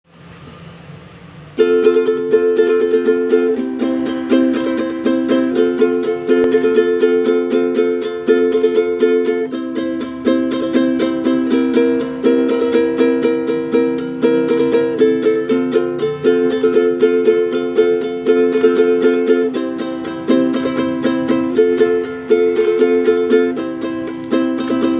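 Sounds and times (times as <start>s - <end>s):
ukulele strumming chords: 1.3s - 24.9s.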